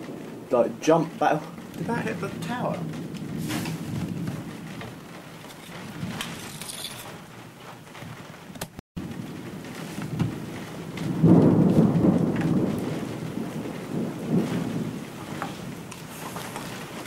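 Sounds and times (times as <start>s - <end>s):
rolling thunder: 0.0s - 17.0s
steady rain: 0.0s - 17.0s.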